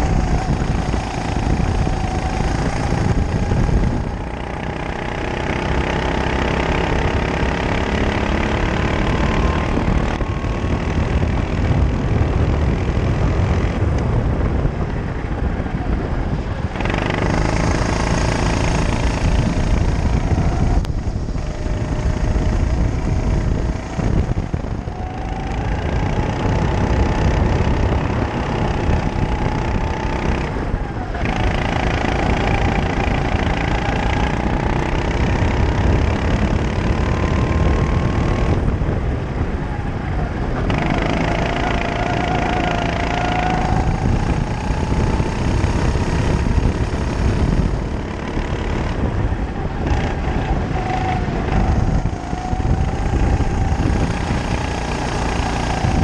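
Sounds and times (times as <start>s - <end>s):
kart engine revving: 0.0s - 56.0s
wind rumble on microphone: 0.0s - 56.0s.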